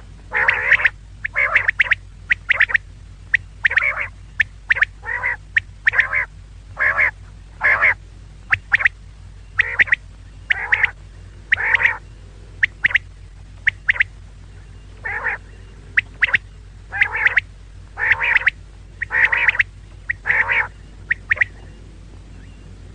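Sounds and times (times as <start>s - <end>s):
quail short calls: 0.3s - 22.6s.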